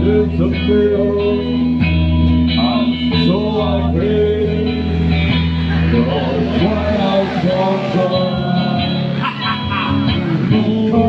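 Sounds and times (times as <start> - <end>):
electric guitar: 0.0 - 11.0
sustained bass notes: 0.0 - 11.0.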